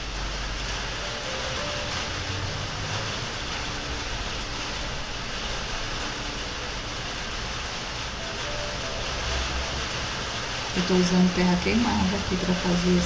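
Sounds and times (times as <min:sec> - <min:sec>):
soft piano notes: 0:00.0 - 0:13.0
steady rain hiss: 0:00.0 - 0:13.0.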